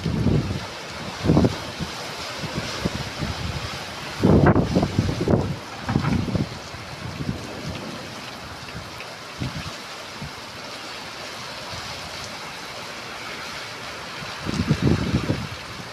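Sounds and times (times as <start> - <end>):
wind gusting against microphone: 0.0 - 10.7, 13.7 - 15.9
heavy rain: 0.0 - 15.9.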